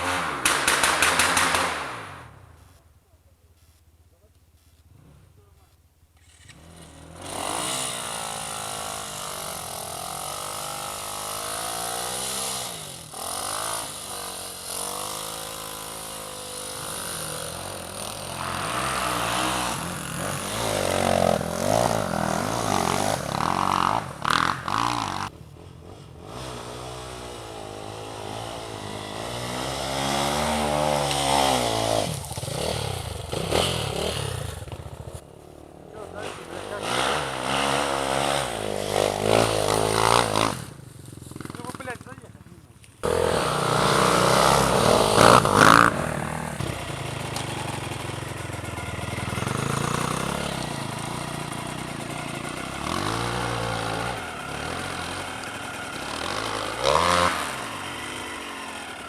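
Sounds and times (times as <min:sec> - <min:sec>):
motorcycle engine revving: 0:00.0 - 0:02.4, 0:06.2 - 0:59.0.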